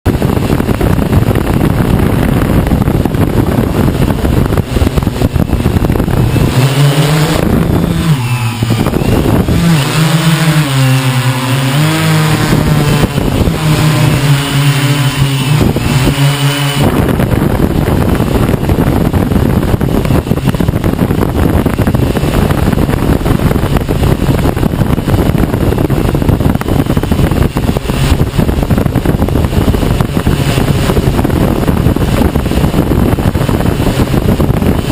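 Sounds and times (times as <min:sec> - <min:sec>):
drone propellers buzzing: 0:00.0 - 0:34.9
wind buffeting microphone: 0:00.0 - 0:34.9.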